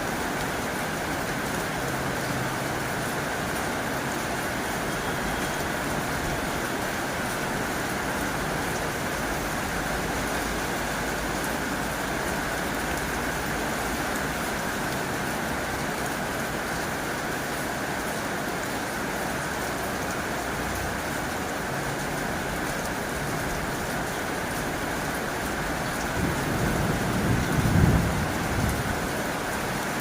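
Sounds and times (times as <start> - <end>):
heavy rain on a tin roof: 0.0 - 30.0.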